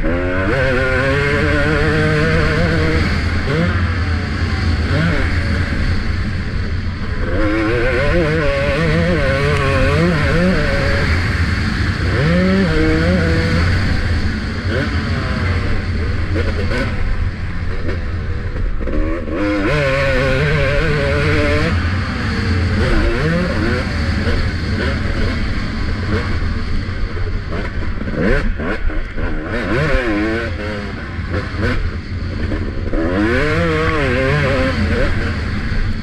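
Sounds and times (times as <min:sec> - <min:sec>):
motocross bike engine revving: 0:00.0 - 0:36.0
wind rumble on camera: 0:00.0 - 0:36.0.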